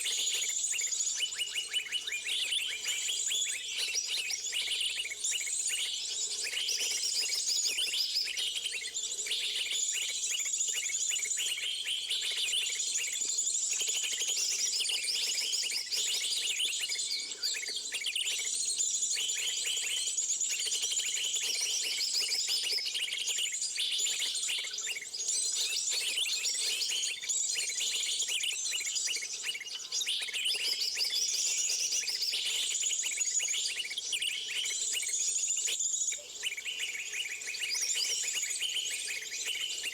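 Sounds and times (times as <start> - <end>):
small birds chirping and trilling: 0.1 - 39.9.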